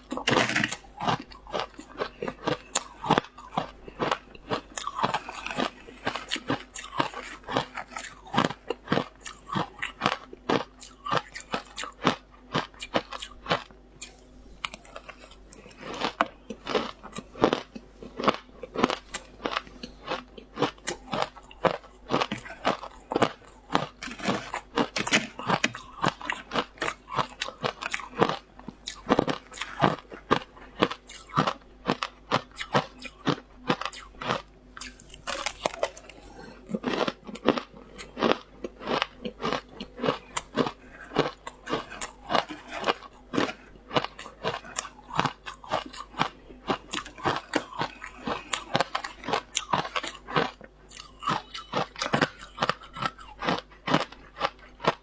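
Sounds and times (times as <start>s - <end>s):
ice being chewed with crunches: 0.0s - 55.0s.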